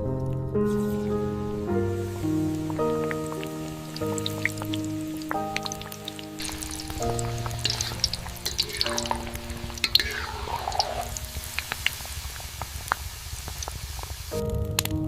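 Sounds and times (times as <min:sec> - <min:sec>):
soft background music: 0:00.0 - 0:12.9, 0:14.3 - 0:15.0
food sizzling in hot oil: 0:00.7 - 0:14.4.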